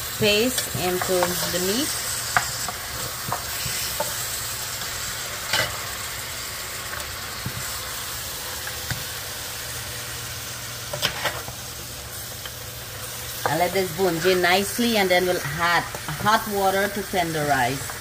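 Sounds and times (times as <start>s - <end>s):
meat and potatoes sizzling: 0.0s - 18.0s.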